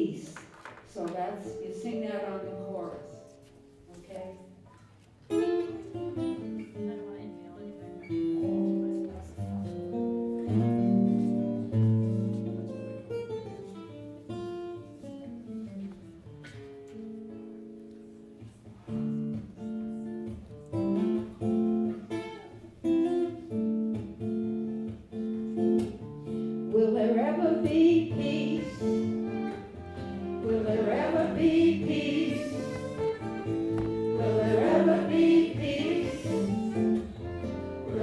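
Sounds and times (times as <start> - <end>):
acoustic guitar strumming: 0.9 - 38.0.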